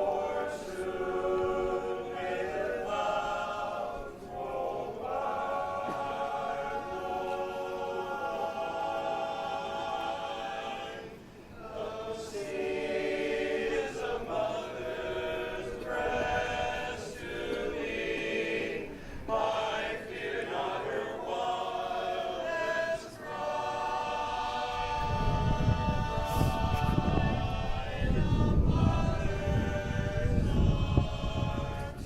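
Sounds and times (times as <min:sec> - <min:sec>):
choir singing slow chords: 0:00.0 - 0:32.0.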